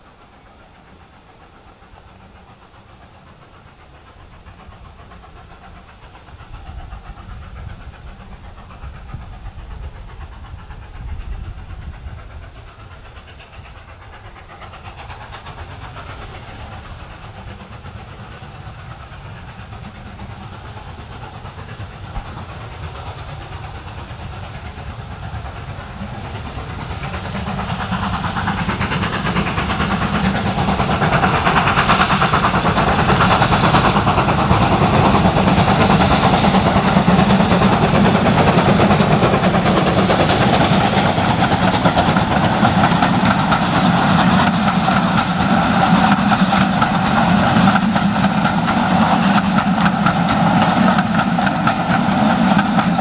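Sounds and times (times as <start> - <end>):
steam train passing: 0.0 - 53.0
train wheels rolling on rails: 0.0 - 53.0.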